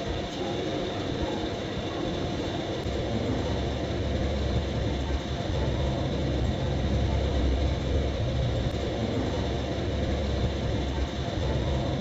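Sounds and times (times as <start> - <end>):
steady rumbling background noise: 0.0 - 12.0.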